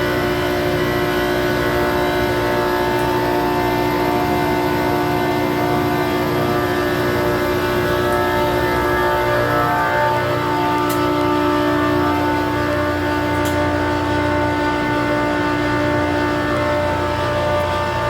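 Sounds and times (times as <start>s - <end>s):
constant machine tones: 0.0s - 18.0s
machinery hum and whine: 0.0s - 18.0s.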